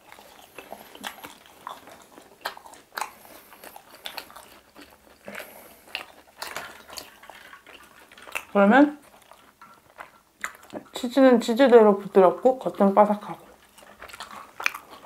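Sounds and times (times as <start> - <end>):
chewing crispy fried chicken: 0.0 - 15.0.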